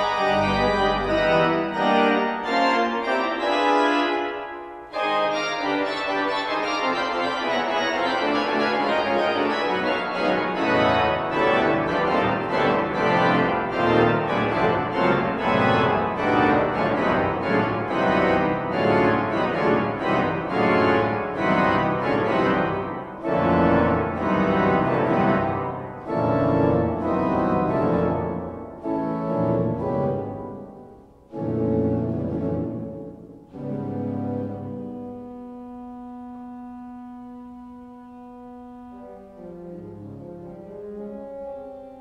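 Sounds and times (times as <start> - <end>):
church organ playing: 0.0 - 42.0.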